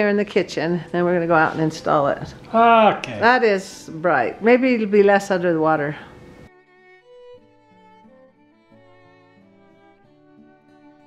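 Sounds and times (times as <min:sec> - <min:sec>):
slow background music: 0:00.0 - 0:11.0.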